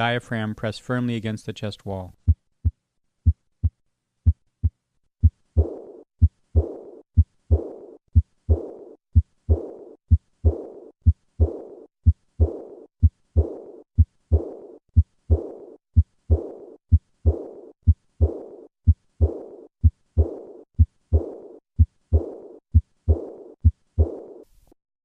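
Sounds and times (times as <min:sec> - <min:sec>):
heartbeat with murmur: 0:02.2 - 0:24.4.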